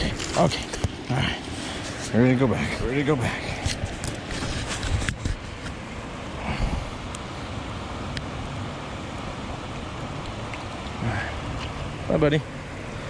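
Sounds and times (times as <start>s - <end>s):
mountain creek running: 0.0s - 13.0s.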